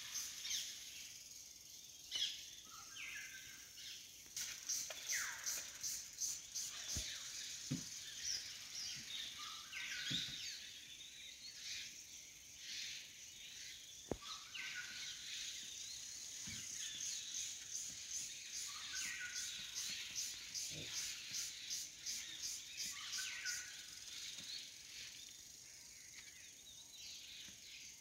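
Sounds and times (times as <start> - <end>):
insect hiss: 0.0 - 28.0
birds chirping: 2.0 - 28.0.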